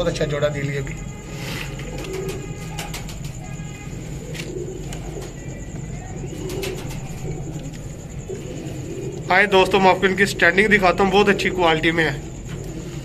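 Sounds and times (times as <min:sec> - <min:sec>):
steady low hum: 0:00.0 - 0:13.0
pigeons cooing: 0:01.0 - 0:13.0.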